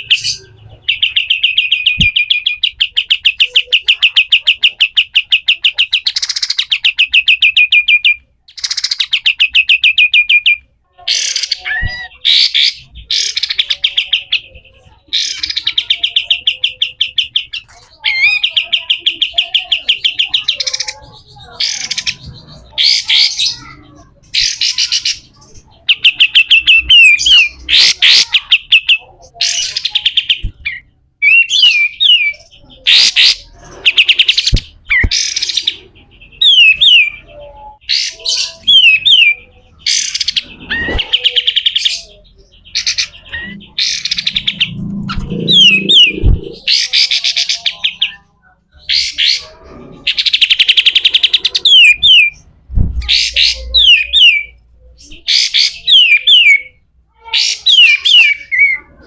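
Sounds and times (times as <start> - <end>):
bird giving harsh rasping calls: 0.0 - 54.6.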